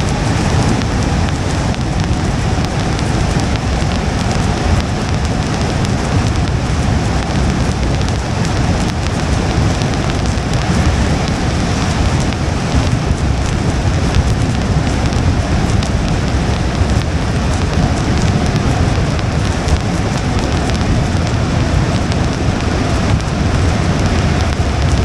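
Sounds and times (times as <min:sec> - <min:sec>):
drops ticking: 0:00.0 - 0:25.0
rain on a moving car: 0:00.0 - 0:25.0
tyres on wet road: 0:00.0 - 0:25.0.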